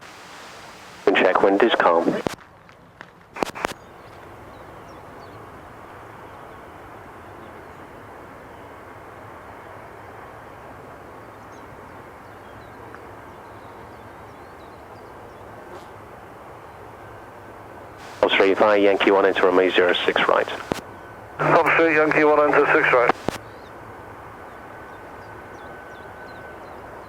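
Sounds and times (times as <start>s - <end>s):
jet aircraft noise: 0.0s - 2.4s, 3.4s - 27.0s.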